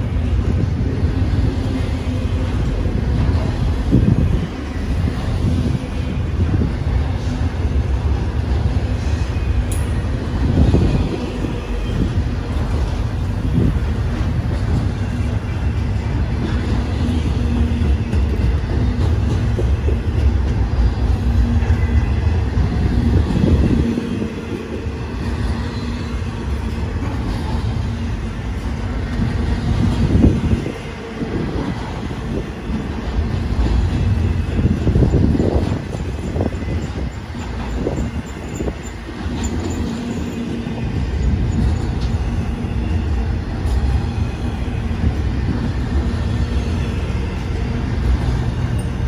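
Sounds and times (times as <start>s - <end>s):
freight train rolling past: 0.0s - 49.0s
steel wheels rumbling on rail: 0.0s - 49.0s.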